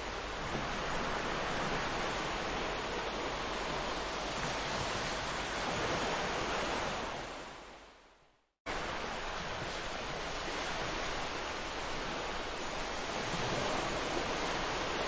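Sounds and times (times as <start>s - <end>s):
sea waves washing onto beach: 0.0s - 8.0s, 8.7s - 15.0s.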